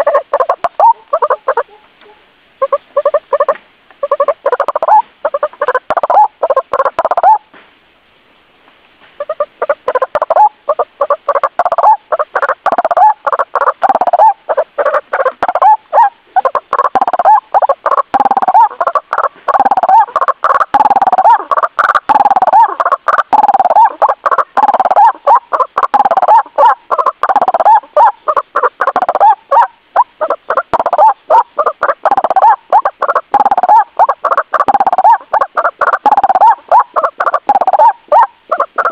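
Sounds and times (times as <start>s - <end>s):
waterhen croaking calls: 0.0s - 7.5s, 9.2s - 38.9s.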